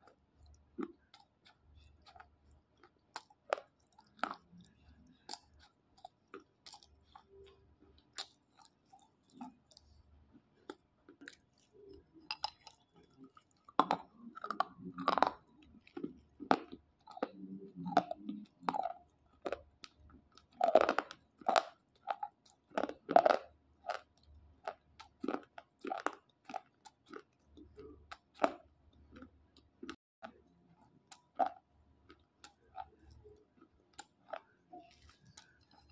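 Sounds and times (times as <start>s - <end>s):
chewing slate pencils crunching: 0.1s - 10.0s, 10.6s - 35.9s.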